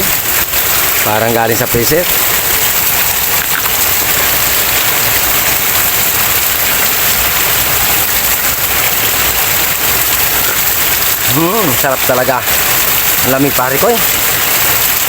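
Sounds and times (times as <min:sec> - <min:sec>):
water splashing out: 0:00.0 - 0:15.0.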